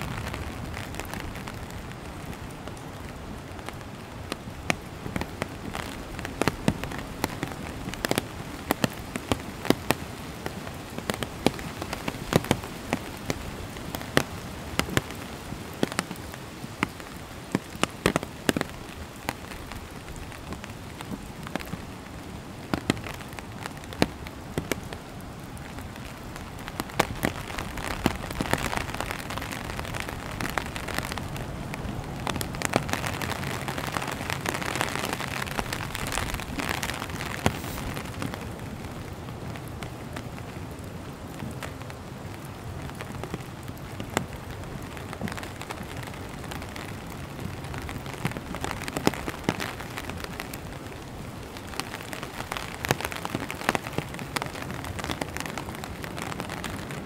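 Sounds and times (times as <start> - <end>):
loud single raindrops: 0.0 - 57.0
steady rain hiss: 0.0 - 57.0.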